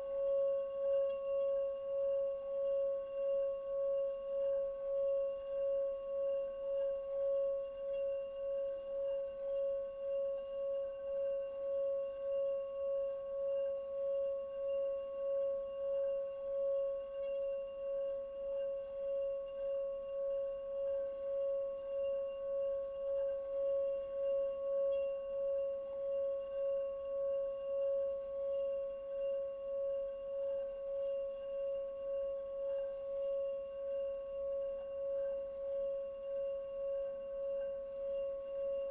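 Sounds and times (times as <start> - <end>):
singing bowl tone: 0.0 - 38.9.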